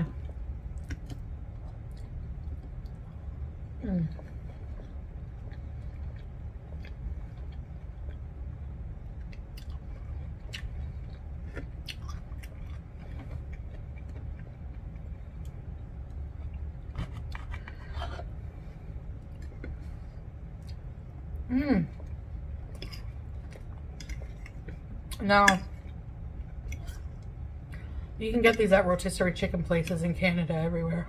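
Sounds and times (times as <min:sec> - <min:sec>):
steady low hum: 0:00.0 - 0:31.0
chewing and mouth sounds: 0:00.1 - 0:18.4, 0:19.2 - 0:28.0.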